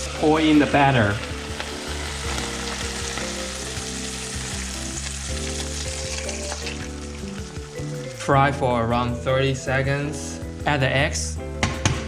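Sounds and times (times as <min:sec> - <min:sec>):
batter sizzling in hot oil: 0:00.0 - 0:09.9.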